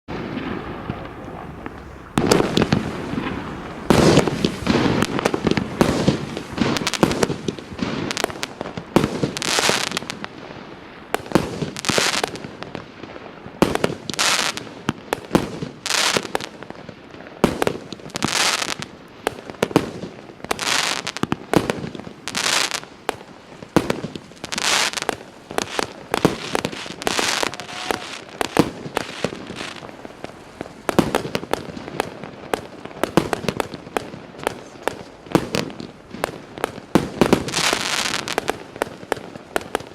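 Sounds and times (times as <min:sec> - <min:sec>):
firework crackling bursts: 0:00.1 - 0:39.9
firework shots: 0:00.1 - 0:39.9.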